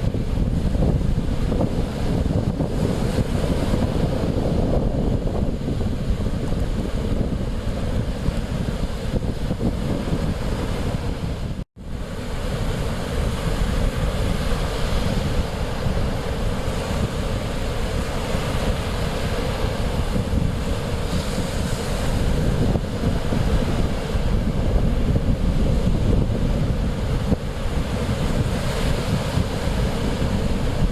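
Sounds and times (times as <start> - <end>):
waves washing on shore: 0.0 - 30.9
wind buffeting microphone: 0.0 - 30.9.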